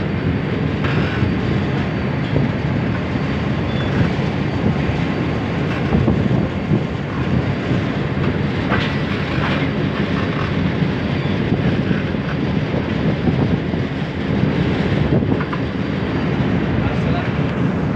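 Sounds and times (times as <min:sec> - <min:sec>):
train wheels rumbling on rails: 0:00.0 - 0:17.9.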